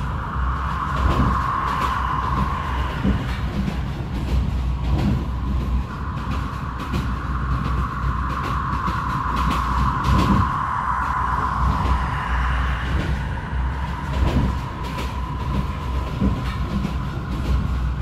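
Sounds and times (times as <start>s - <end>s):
model coaches rumbling on track: 0.0s - 12.2s, 12.8s - 18.0s.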